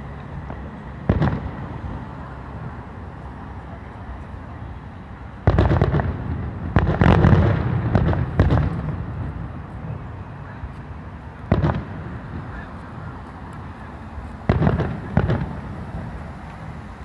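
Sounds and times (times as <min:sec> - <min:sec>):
distant fireworks bursting: 0:00.0 - 0:17.0.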